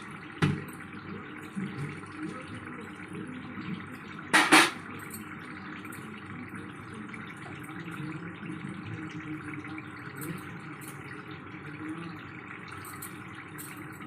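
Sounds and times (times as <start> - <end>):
curry bubbling and simmering: 0.0 - 14.0.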